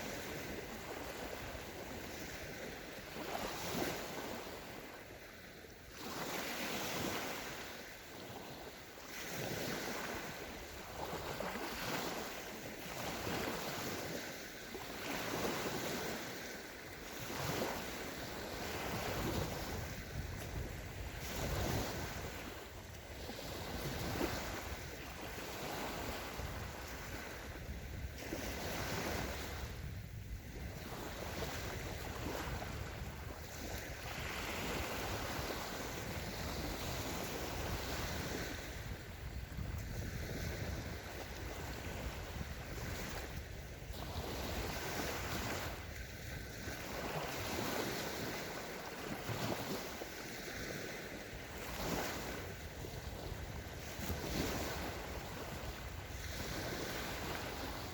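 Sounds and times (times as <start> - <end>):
small waves washing onto shore: 0.0 - 57.9.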